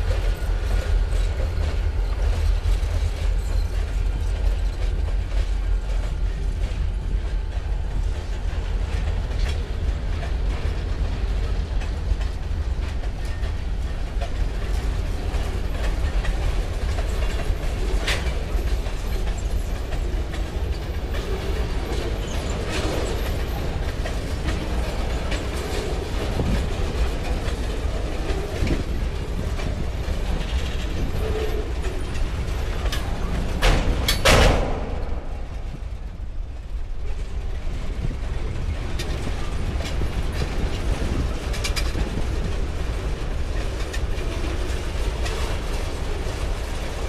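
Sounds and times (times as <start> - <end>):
train wheels clattering over rails: 0.0 - 47.0.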